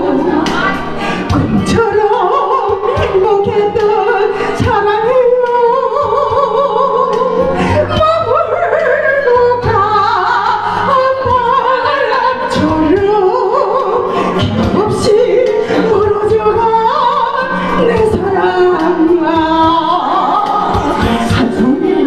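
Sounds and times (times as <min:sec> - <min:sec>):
karaoke backing music with drums: 0:00.0 - 0:22.0
woman singing into microphone: 0:00.0 - 0:22.0.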